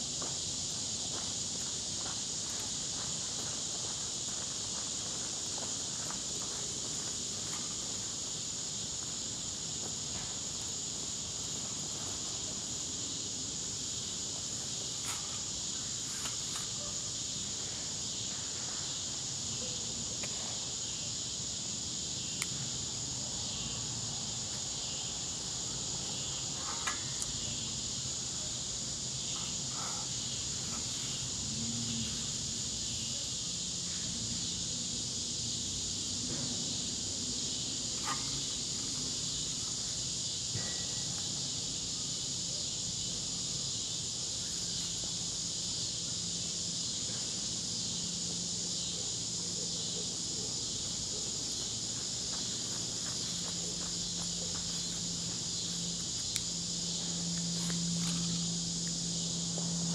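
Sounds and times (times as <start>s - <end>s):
insect chorus droning: 0.0s - 59.9s.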